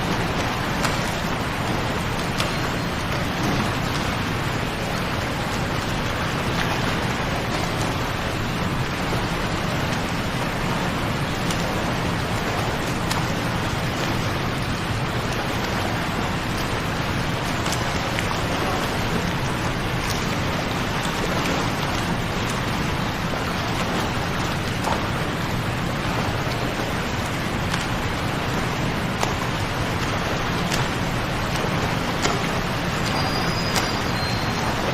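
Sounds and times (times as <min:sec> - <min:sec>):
small water splashes: 0:00.0 - 0:34.9
waterfall rushing: 0:00.0 - 0:34.9.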